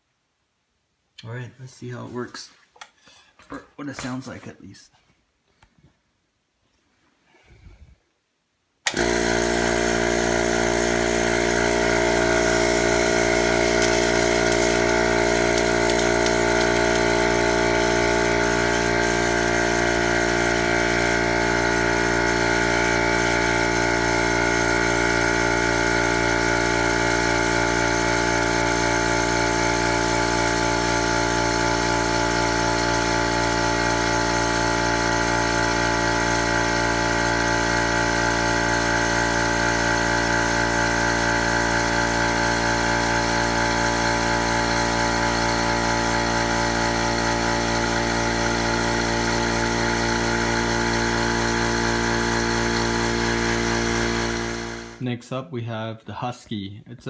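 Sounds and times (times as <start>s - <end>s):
air compressor running: 8.8s - 55.0s.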